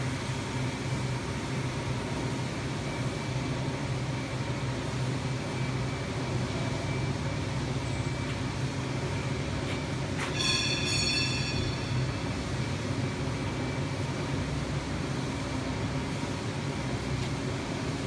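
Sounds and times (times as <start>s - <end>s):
factory machinery hum and hiss: 0.0s - 18.0s.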